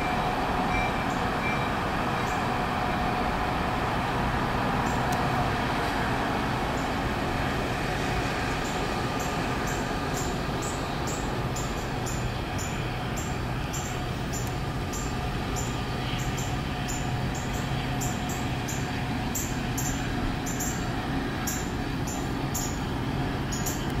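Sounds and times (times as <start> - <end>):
train engine and wheels rumbling: 0.0 - 24.0.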